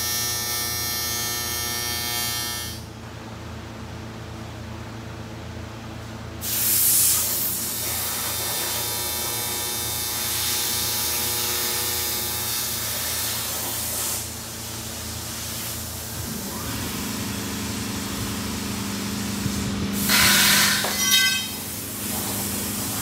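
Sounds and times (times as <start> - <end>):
continuous low hum: 0.0 - 23.0.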